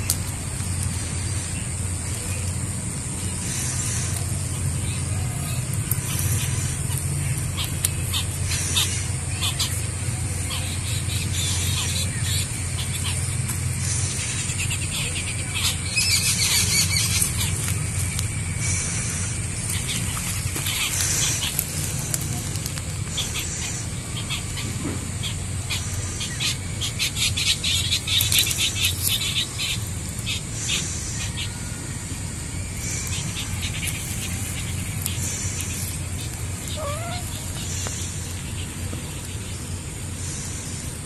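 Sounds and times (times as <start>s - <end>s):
small birds chirping: 0.0s - 41.0s
steady low rumble: 0.0s - 41.0s.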